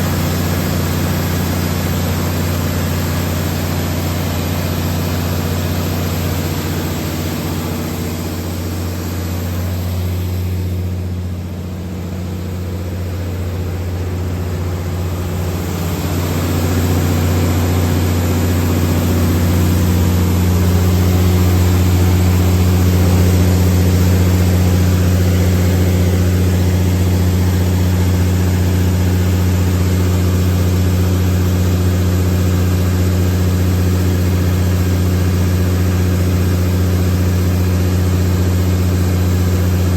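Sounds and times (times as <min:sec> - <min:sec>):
diesel generator engine droning: 0:00.0 - 0:39.9.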